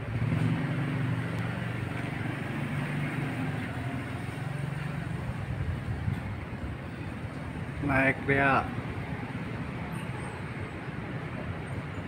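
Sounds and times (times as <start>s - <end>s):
street noise: 0.0s - 12.0s
vehicle engine humming: 0.0s - 12.0s.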